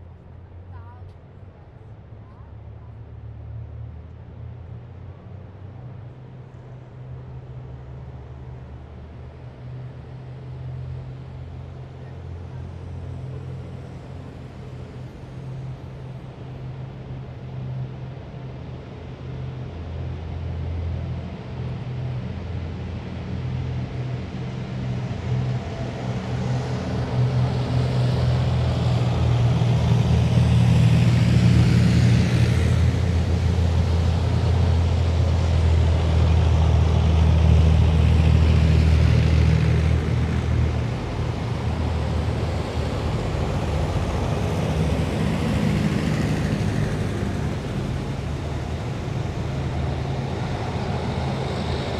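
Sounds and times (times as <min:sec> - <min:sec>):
heavy vehicle engines droning: 0:00.0 - 0:51.9.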